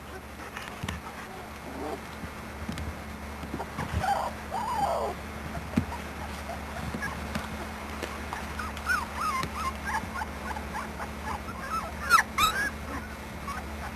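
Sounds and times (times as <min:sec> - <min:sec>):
puppies whimpering: 0:00.0 - 0:02.1, 0:03.6 - 0:13.9
low steady hum: 0:00.0 - 0:13.9.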